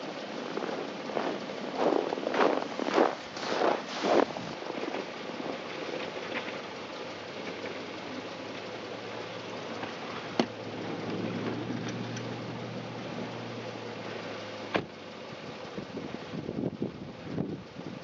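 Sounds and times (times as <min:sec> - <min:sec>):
car engine idling: 0:00.0 - 0:18.0
continuous rushing noise: 0:00.0 - 0:18.0.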